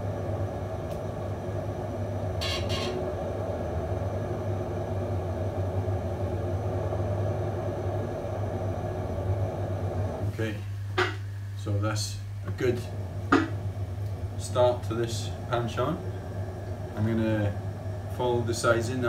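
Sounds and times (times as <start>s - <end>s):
potter's wheel motor hum: 0.0s - 19.0s.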